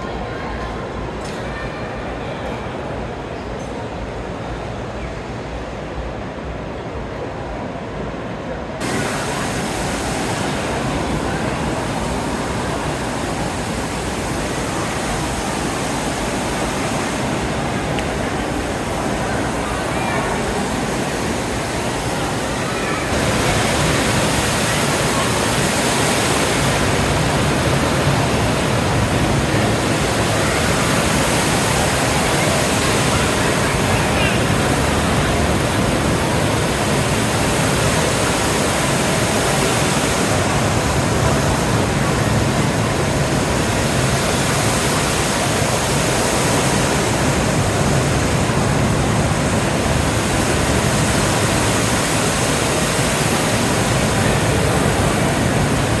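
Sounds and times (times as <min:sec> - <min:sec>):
boat engine: 0:08.6 - 0:56.0
water rushing: 0:08.7 - 0:56.0.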